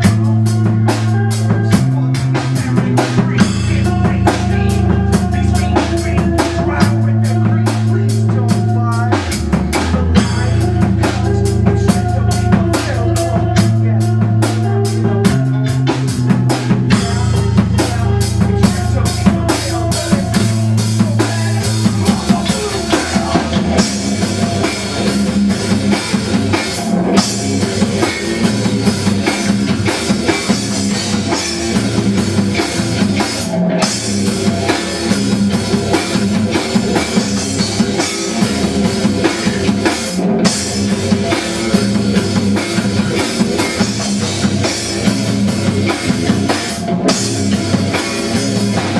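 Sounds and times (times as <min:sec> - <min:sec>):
driving drum beat: 0:00.0 - 0:48.9
rock music: 0:00.0 - 0:48.9.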